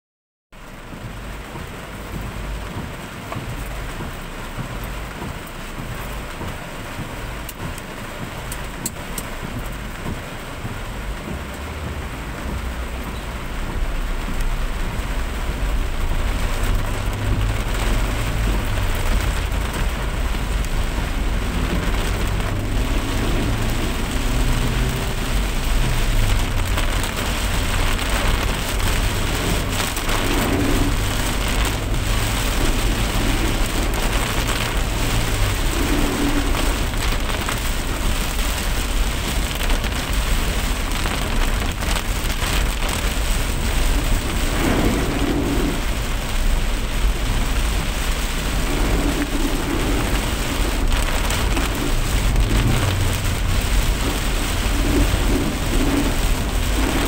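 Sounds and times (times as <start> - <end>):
steady rain-like noise: 0.6 - 57.0
deep low rumble: 9.3 - 57.0.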